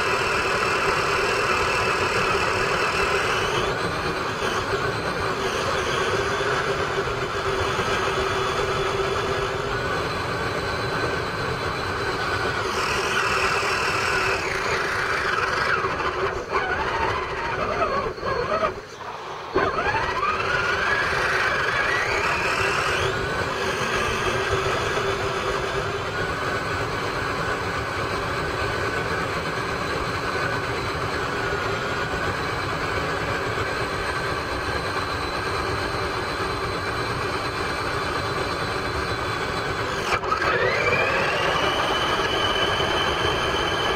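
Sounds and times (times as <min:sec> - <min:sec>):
electric motor and gears whining: 0:00.0 - 0:43.9.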